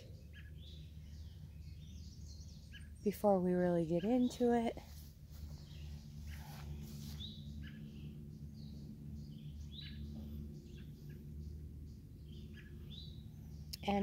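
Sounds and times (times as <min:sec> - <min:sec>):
low steady hum: 0:00.0 - 0:14.0
small birds chirping: 0:00.0 - 0:14.0.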